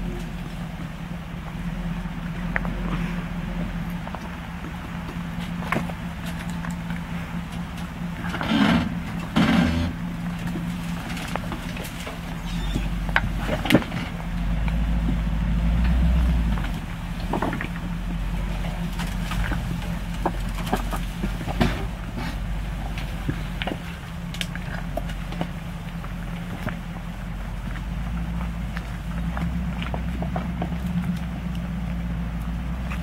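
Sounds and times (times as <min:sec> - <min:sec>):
engine running at low revs: 0:00.0 - 0:33.0.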